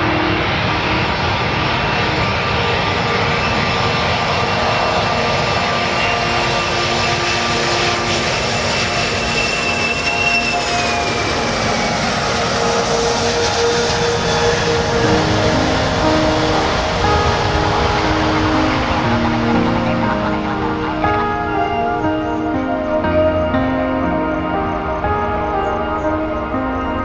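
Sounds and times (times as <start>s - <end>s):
jet engines whining: 0.0s - 27.0s.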